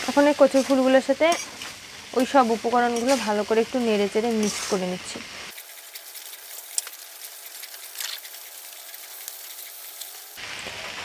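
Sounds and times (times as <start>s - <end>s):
flowers sizzling in a pan: 0.0s - 11.0s
spatula scraping a pan: 0.1s - 10.4s.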